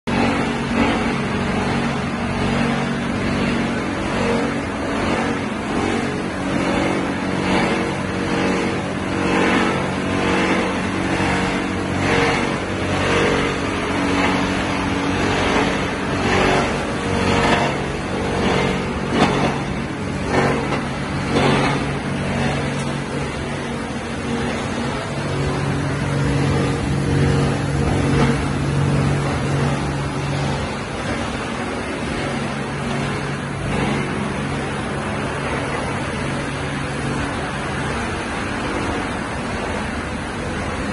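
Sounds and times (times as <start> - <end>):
electric motors humming: 0.1 - 40.9.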